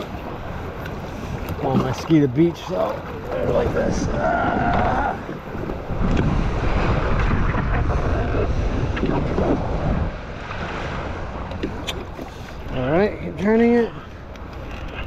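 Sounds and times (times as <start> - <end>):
water lapping: 0.0 - 15.0
wind buffeting microphone: 0.0 - 15.0.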